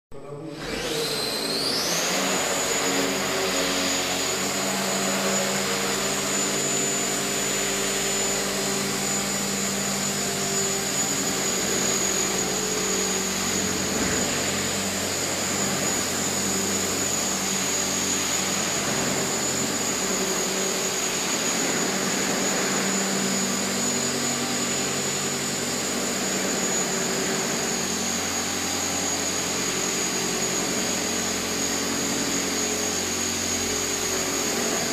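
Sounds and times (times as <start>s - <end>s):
helicopter motor whine: 0.3s - 34.9s
rotor noise: 0.4s - 34.9s.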